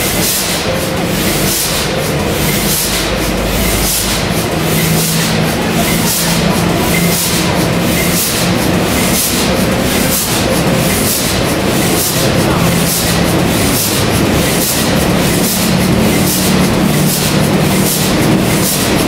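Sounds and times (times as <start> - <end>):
large diesel engine running slowly: 0.0 - 19.0.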